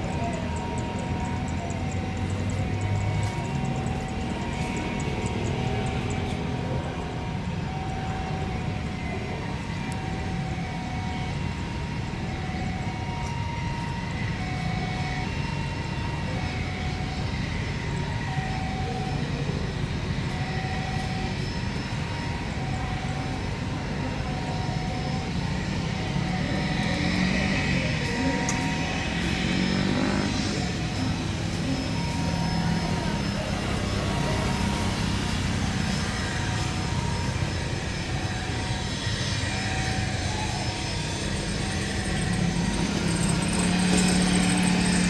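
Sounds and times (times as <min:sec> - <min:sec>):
jet engines rumbling and whining: 0:00.0 - 0:45.0.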